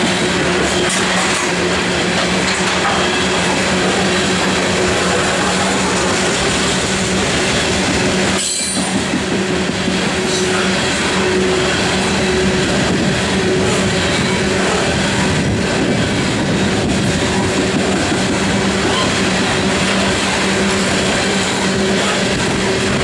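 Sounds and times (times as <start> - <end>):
steel wheels rumbling on rail: 0.0 - 23.0
train cars rolling past: 0.0 - 23.0.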